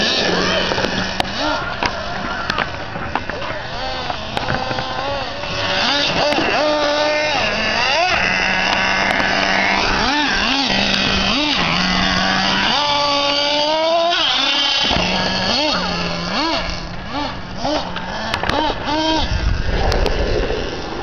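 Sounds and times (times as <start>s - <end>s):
toy truck engine revving: 0.0s - 19.8s.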